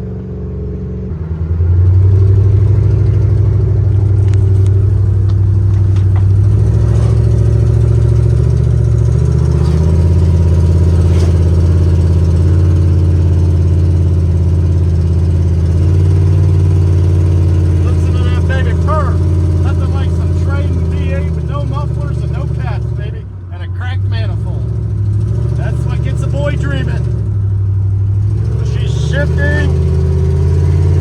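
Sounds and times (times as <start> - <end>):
loud truck engine driving: 0.0 - 31.0.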